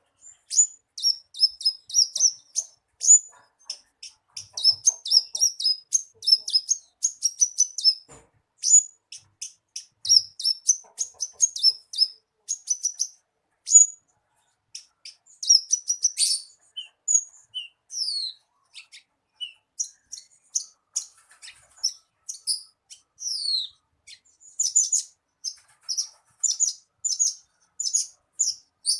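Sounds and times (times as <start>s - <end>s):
bird chirping and trilling: 0.2s - 14.0s, 14.7s - 28.9s.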